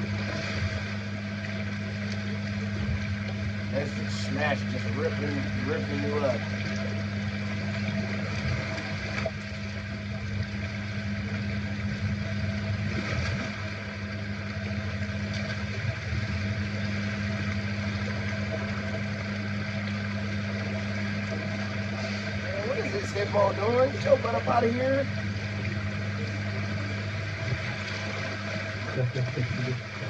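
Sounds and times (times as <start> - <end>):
low motor hum: 0.0 - 30.0.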